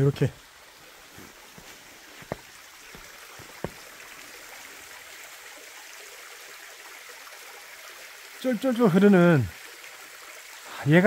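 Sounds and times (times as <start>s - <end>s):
stream trickling over rock: 0.0s - 11.0s.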